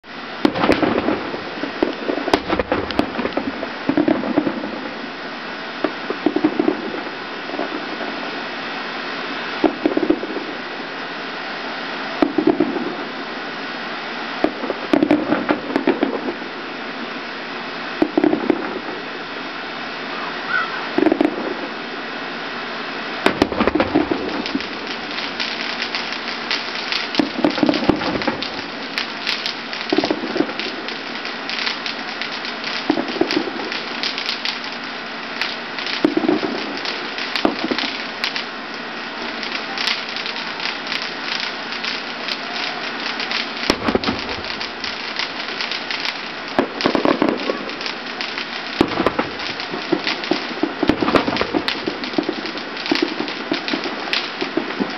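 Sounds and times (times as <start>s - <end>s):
fireworks bangs: 0.0s - 54.9s
fireworks crackling: 0.0s - 54.9s.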